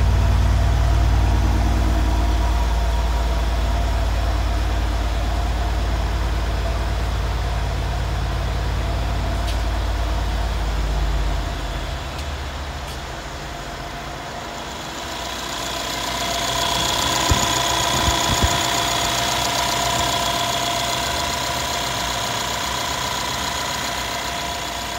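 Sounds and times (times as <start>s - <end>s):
engine exhaust rumble: 0.0s - 24.9s
high engine whine: 0.0s - 24.9s.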